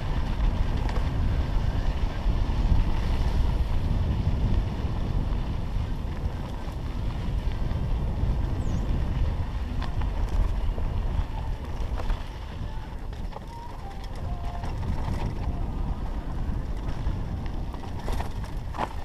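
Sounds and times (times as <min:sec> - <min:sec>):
bike clicks and rattles: 0:00.0 - 0:19.0
wind buffeting microphone: 0:00.0 - 0:19.0.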